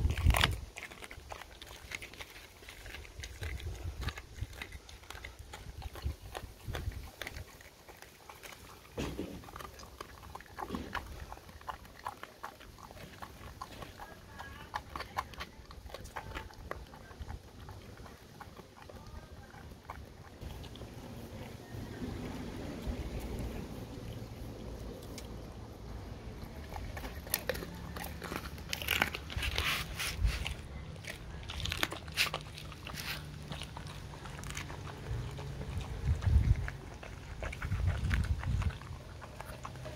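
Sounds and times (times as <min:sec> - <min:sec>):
dog crunching fish bones: 0:00.0 - 0:39.9.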